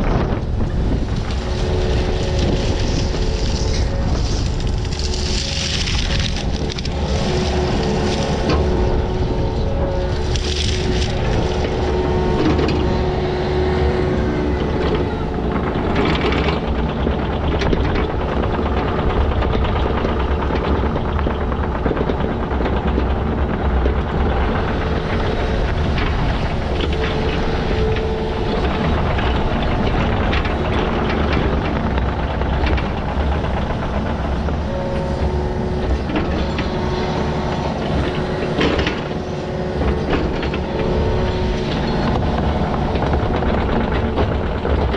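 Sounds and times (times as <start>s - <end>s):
digging machine engine running: 0.0s - 44.9s.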